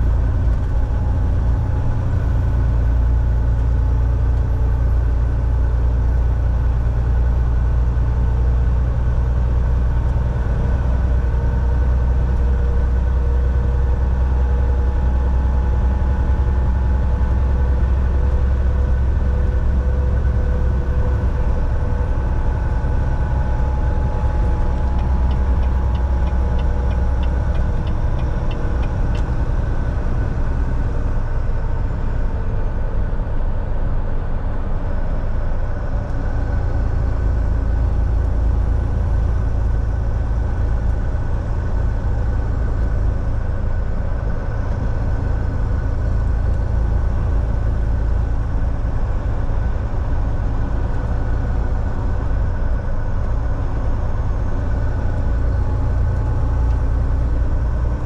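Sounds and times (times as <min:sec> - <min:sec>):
road noise: 0:00.0 - 0:58.0
truck diesel engine droning: 0:00.0 - 0:58.0.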